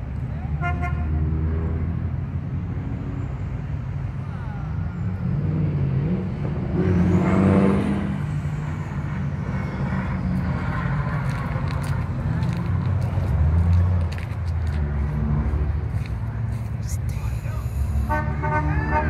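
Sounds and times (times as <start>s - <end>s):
old cars driving past: 0.0s - 19.0s.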